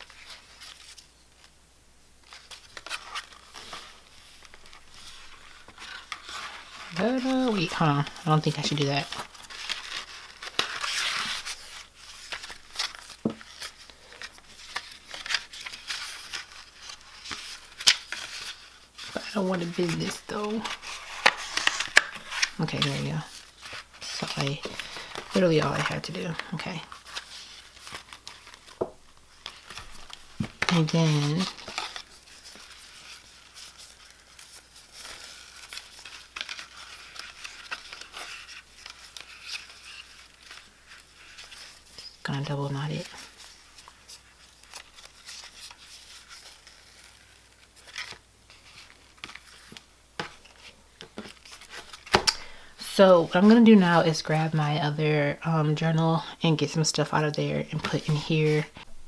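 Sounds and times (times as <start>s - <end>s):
paper rustling: 0.0s - 1.5s, 2.2s - 54.5s, 55.1s - 59.0s.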